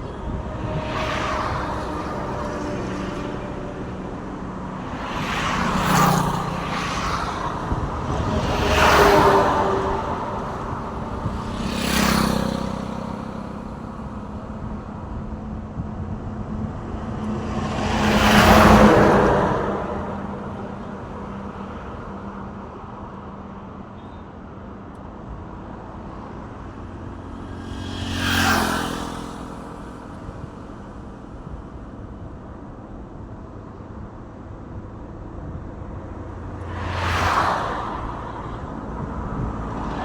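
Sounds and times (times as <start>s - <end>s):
trucks passing on road: 0.0s - 40.0s.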